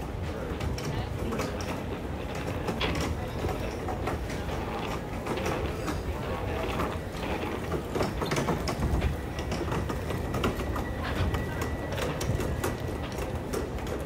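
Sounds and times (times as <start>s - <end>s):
plastic carts rolling on hard floor: 0.0s - 14.0s.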